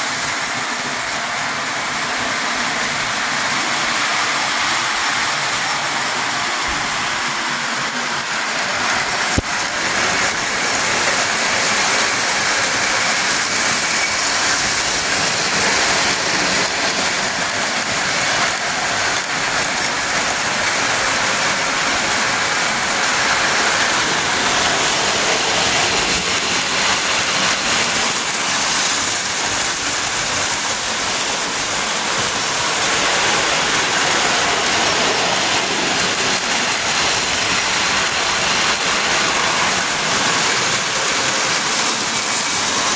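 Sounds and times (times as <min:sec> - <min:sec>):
toy train rolling on track: 0:00.0 - 0:42.9.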